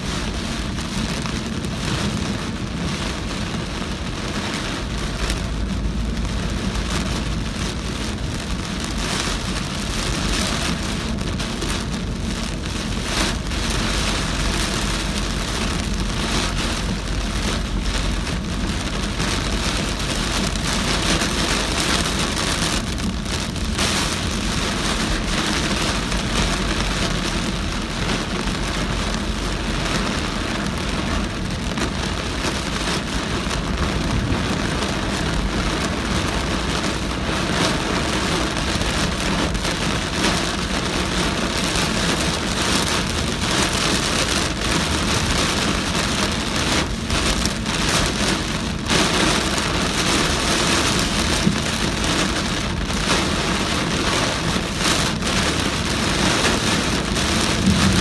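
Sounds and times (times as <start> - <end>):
heavy rain pelting a car: 0.0 - 58.0
low rumble of car and road: 0.0 - 58.0.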